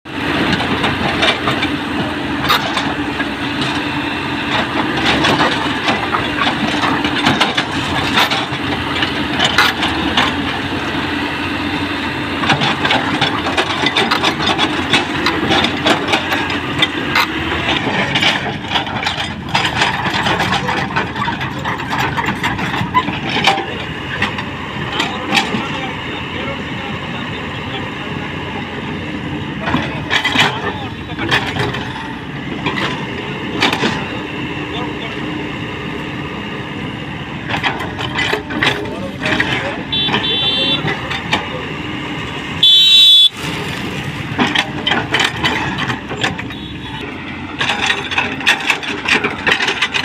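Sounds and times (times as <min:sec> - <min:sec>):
excavator clanks and rattles: 0:00.1 - 0:50.0
excavator diesel engine running: 0:00.1 - 0:50.0.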